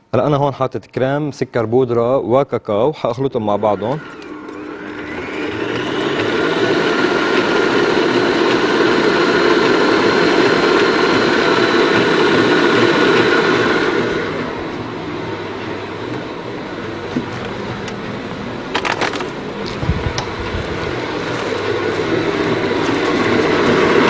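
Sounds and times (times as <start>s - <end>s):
electric stand mixer whirring: 3.5s - 24.0s.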